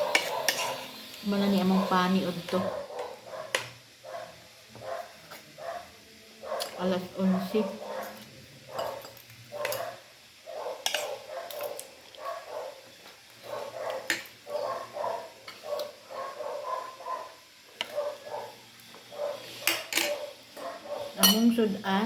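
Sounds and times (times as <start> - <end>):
dog barking: 0.0 - 0.8, 2.5 - 21.2.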